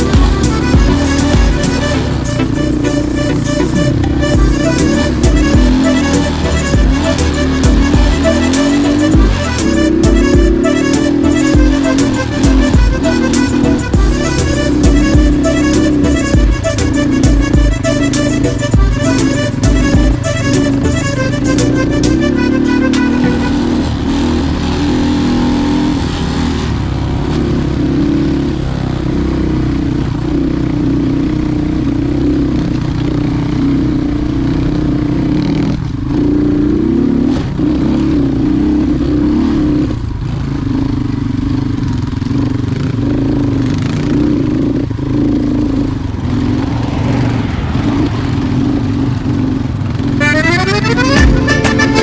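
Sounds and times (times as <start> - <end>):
motorcycle engine running: 0.0 - 52.0
road and wind noise: 0.0 - 52.0.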